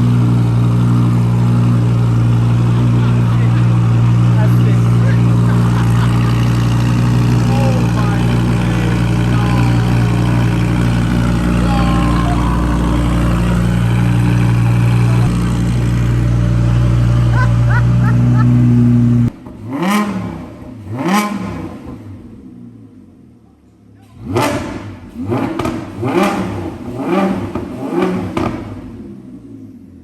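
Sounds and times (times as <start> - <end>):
car engine revving: 0.0 - 23.3, 24.1 - 29.3
car engine idling: 0.0 - 30.0.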